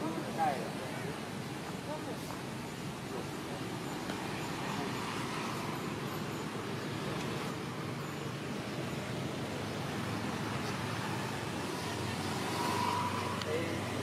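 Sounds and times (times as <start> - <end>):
outdoor hiss and rumble: 0.0 - 14.0.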